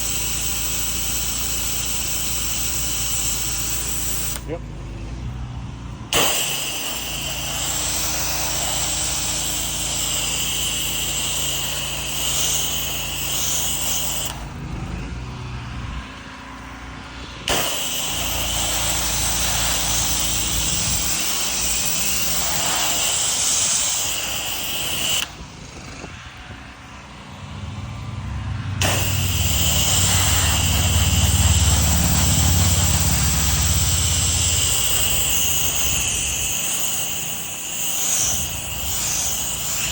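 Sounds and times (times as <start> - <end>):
pressure washer water jet hiss: 0.0 - 4.6, 6.1 - 14.7, 17.4 - 25.7, 28.8 - 39.9
engine drone: 0.0 - 39.9.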